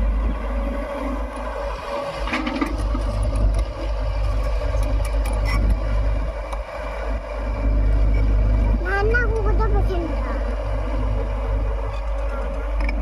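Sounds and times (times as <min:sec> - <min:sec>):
diesel digger engine rumbling: 0:00.0 - 0:13.0.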